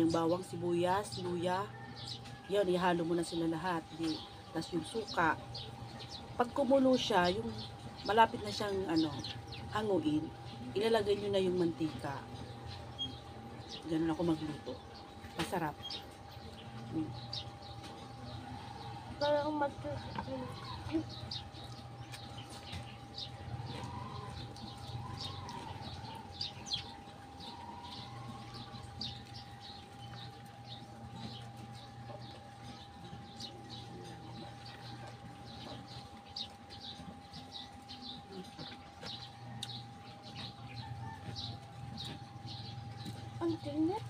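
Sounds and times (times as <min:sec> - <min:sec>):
faint steady hum: 0:00.0 - 0:44.0
small birds chirping: 0:00.0 - 0:44.0.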